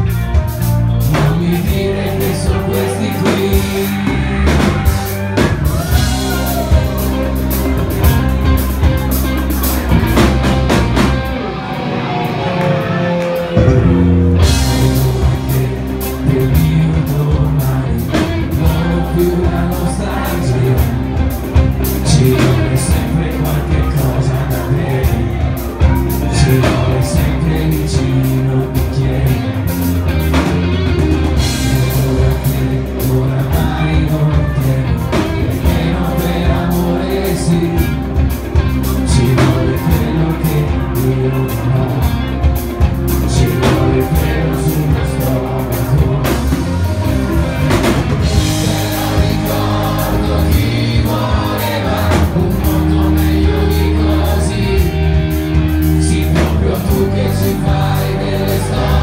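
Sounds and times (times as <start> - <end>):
drums and cymbals: 0.0 - 11.4, 13.6 - 59.0
bass guitar: 0.0 - 59.0
electric guitar: 0.0 - 59.0
person singing: 0.0 - 59.0.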